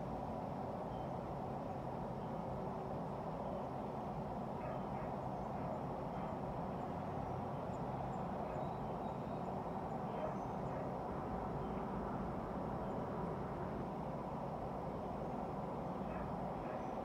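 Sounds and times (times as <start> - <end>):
low ambient background noise: 0.0 - 17.0.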